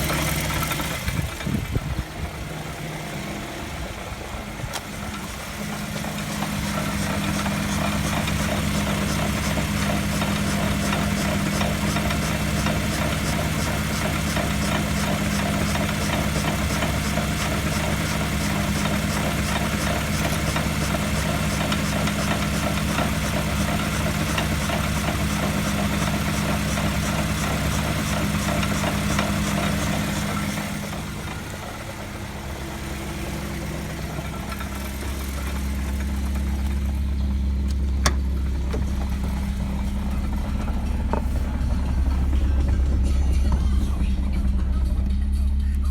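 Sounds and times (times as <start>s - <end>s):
wheel bearing hum and rumble: 0.0s - 45.9s.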